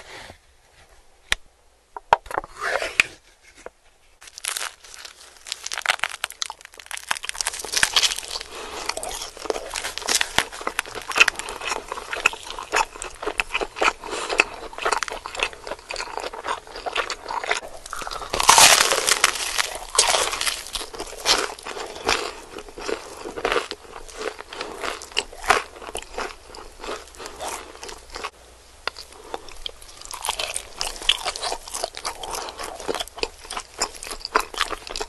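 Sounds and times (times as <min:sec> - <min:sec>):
biting and chewing pizza: 0:04.2 - 0:28.3, 0:28.9 - 0:35.0.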